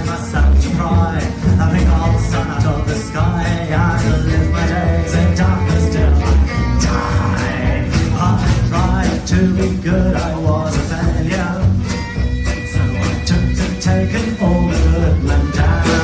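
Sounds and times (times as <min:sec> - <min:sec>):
live band playing ragtime: 0:00.0 - 0:16.0.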